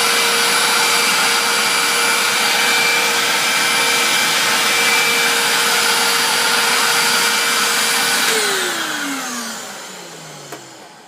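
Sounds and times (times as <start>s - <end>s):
motor winding down: 0.0s - 11.0s
vacuum cleaner whining: 0.0s - 11.0s.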